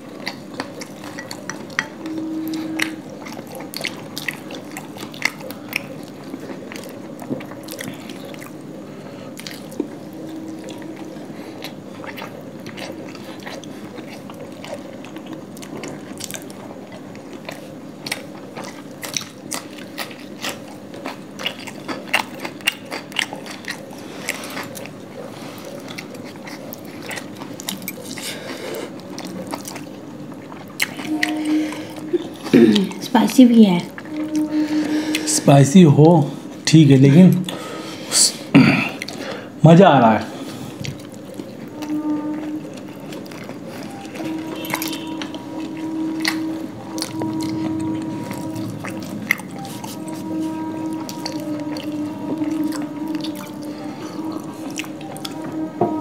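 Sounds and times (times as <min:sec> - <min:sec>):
people chewing and biting: 0:00.0 - 0:36.6, 0:37.2 - 0:39.6, 0:40.2 - 0:56.0
steady low hum: 0:00.0 - 0:56.0.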